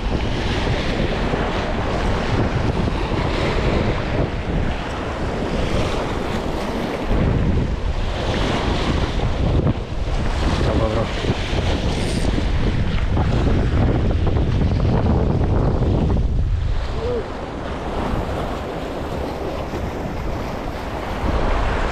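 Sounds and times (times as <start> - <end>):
waves splashing against rocks: 0.0 - 21.9
wind buffeting microphone: 0.0 - 21.9.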